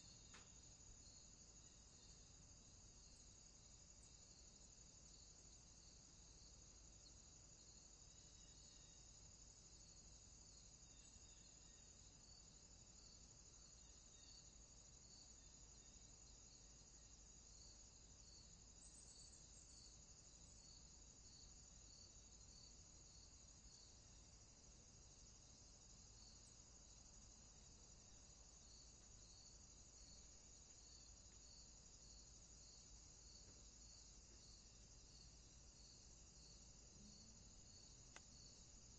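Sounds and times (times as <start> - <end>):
faint low hum: 0.0 - 38.9
insect trill: 0.0 - 38.9
short insect chirps: 0.0 - 38.9.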